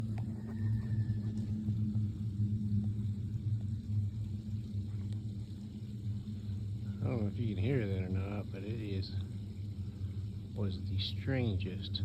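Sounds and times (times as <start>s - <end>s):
deep throbbing drone overhead: 0.0s - 12.0s.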